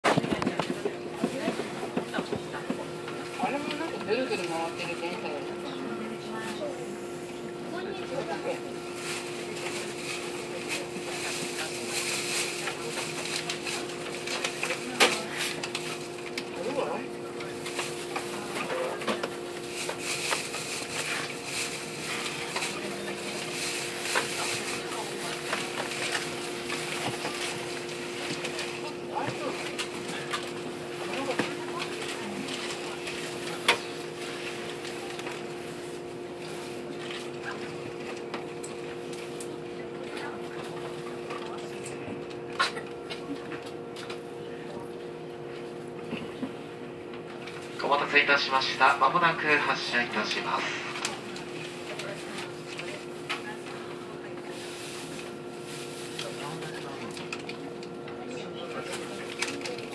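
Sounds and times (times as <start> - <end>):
train cabin hum: 0.0 - 59.9.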